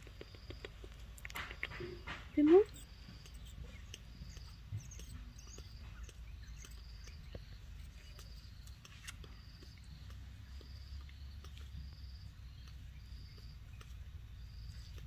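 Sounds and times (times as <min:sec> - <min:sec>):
monkey suckling clicks and smacks: 0:00.0 - 0:15.0
faint high chirp: 0:01.4 - 0:15.0.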